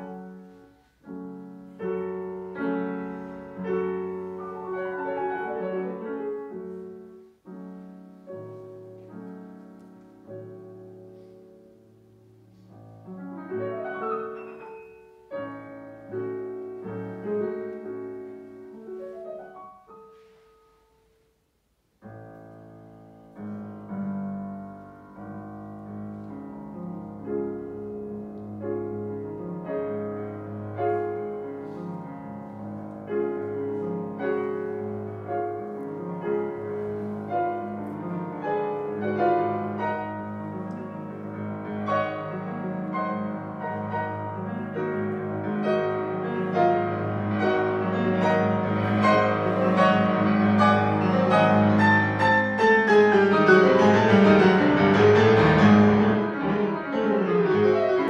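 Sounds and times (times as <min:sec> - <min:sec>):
solo classical piano: 0:00.0 - 0:58.0.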